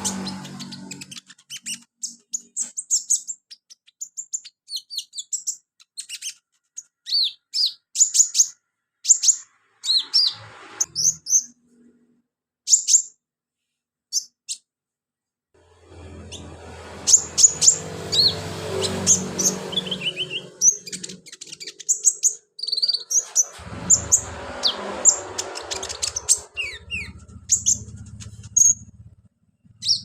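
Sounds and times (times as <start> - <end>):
bird singing high chirps: 0.0 - 11.7, 15.9 - 29.1, 29.7 - 30.0.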